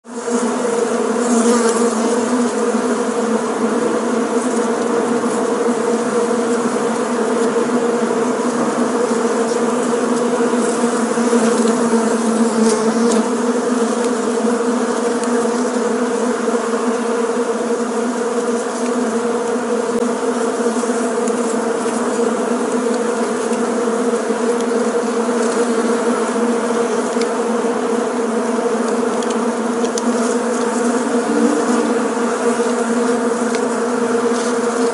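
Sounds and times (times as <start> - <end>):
bees buzzing in flight: 0.0 - 34.9.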